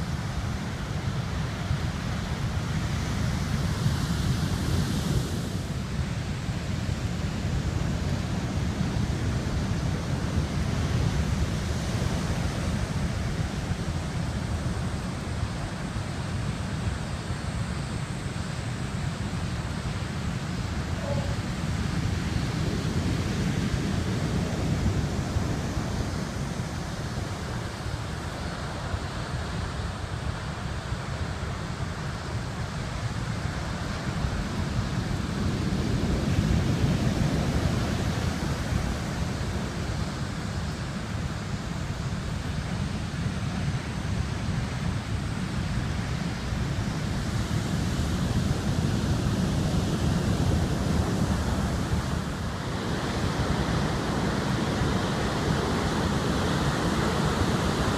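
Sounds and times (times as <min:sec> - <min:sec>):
heavy surf: 0:00.0 - 0:57.9.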